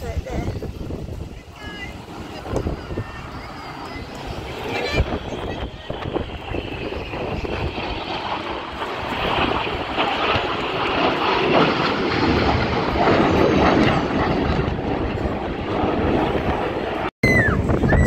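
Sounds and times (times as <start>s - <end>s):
jet roar flying past: 0.0s - 18.0s.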